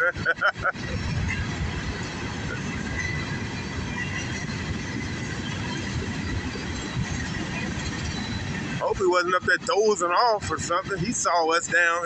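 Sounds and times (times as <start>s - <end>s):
freight train cars rolling: 0.0s - 12.0s.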